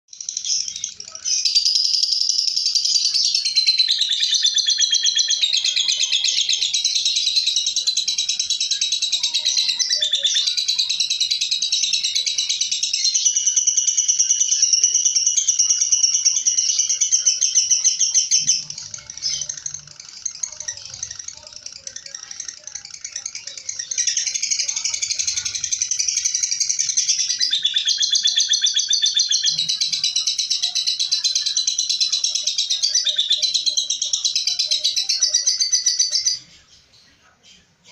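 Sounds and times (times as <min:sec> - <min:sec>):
lovebird chattering trill: 0:00.1 - 0:36.9.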